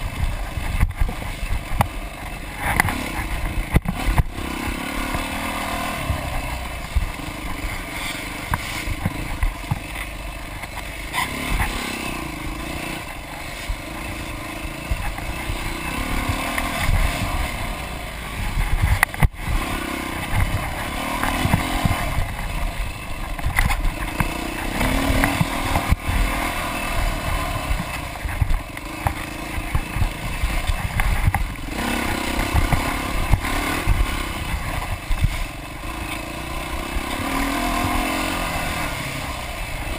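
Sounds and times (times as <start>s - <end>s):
thuds from rough ground: 0.0s - 38.4s
dirt bike engine revving: 0.0s - 39.9s.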